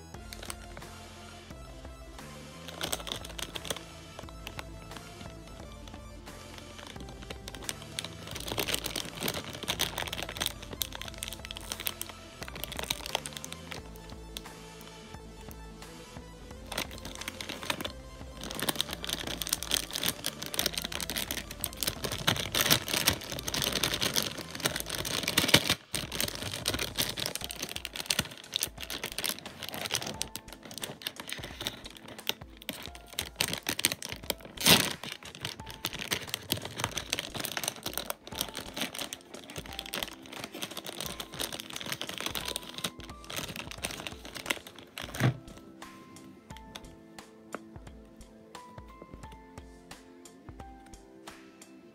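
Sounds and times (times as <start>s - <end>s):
foil packaging crinkling: 0.0s - 0.8s, 2.6s - 14.5s, 16.6s - 45.8s
background music: 0.0s - 51.9s.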